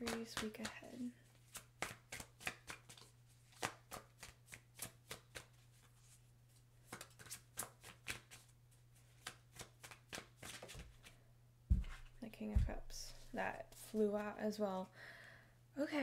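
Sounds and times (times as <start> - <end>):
cards being shuffled: 0.0 - 6.2, 6.8 - 14.0.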